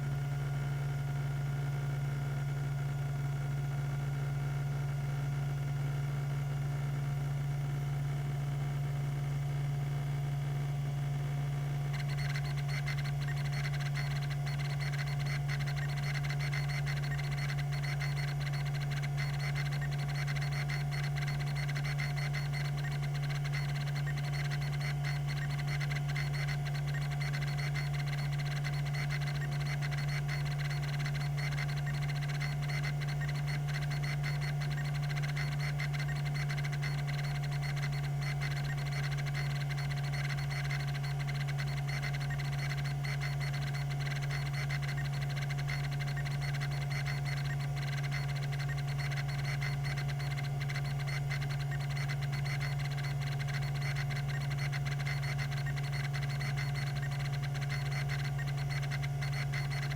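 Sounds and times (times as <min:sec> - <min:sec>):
hard drive spindle hum: 0:00.0 - 0:59.9
hard drive ticking chatter: 0:11.2 - 0:59.9.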